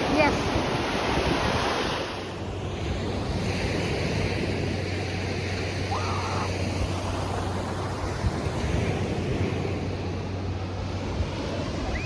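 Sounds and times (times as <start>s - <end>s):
ocean surf washing on beach: 0.0s - 12.0s.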